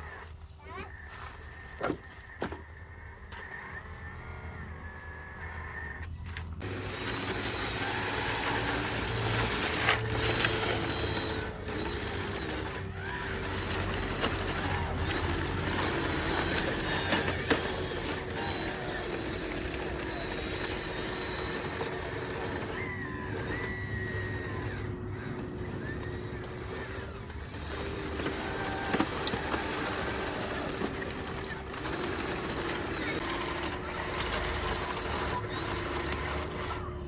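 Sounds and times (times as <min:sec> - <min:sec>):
small electric motor whining: 0:00.0 - 0:37.0.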